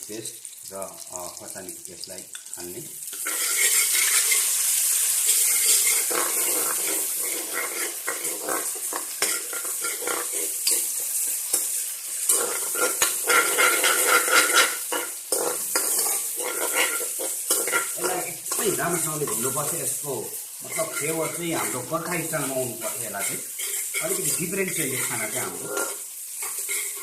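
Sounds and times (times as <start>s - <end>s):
food sizzling in hot oil: 0.0s - 27.0s
spoon stirring and scraping pan: 3.1s - 27.0s.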